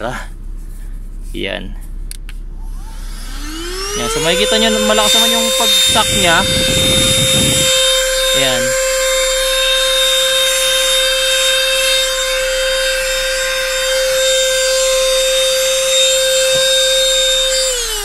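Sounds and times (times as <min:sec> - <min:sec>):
handheld vacuum cleaner whining: 0:02.6 - 0:18.0
vacuum motor winding down: 0:02.6 - 0:18.0.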